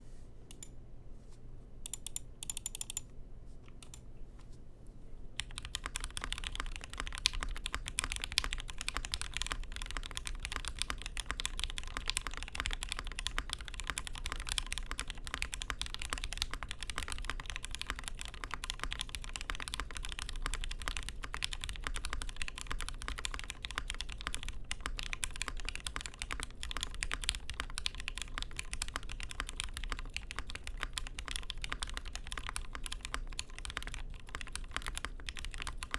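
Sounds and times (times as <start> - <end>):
mechanical keyboard typing: 1.9 - 3.0, 5.4 - 35.9.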